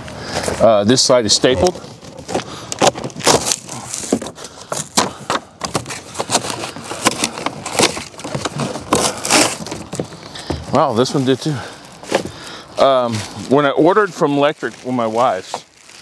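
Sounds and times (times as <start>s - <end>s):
cardboard crackling and tearing: 0.5s - 16.0s.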